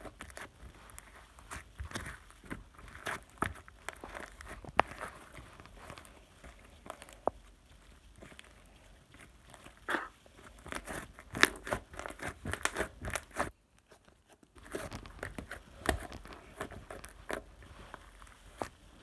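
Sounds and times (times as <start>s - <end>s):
crinkling and crackling: 0.0s - 19.0s.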